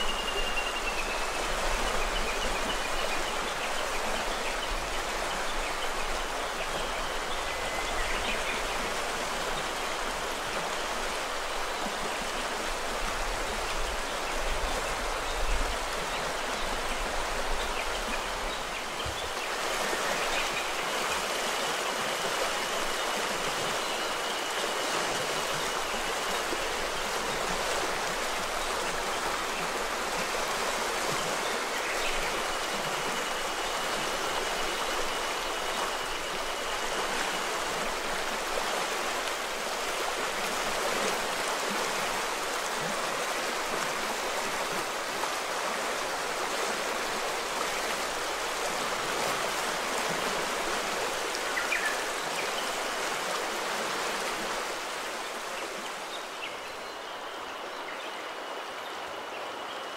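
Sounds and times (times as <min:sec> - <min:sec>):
mountain river rushing: 0:00.0 - 0:59.9.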